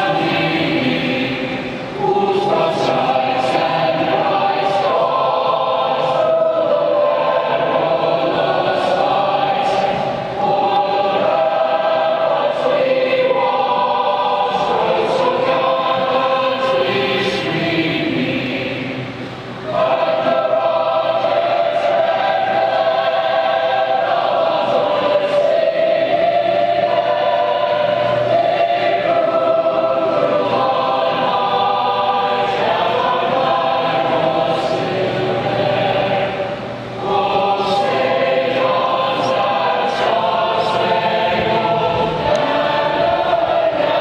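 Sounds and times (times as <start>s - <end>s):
choir singing: 0.0s - 44.0s.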